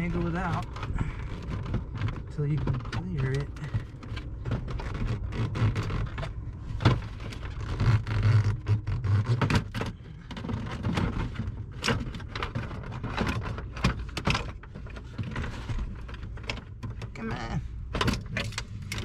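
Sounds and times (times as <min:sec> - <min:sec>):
car trim knocking and rattling: 0:00.0 - 0:17.2, 0:17.8 - 0:19.0
steady low hum: 0:00.0 - 0:19.0.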